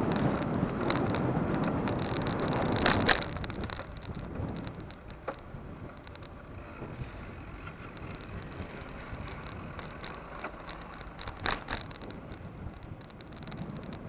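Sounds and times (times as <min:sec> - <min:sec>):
bike clicks and rattles: 0:00.0 - 0:14.0
tyre road and wind rumble: 0:00.0 - 0:14.0.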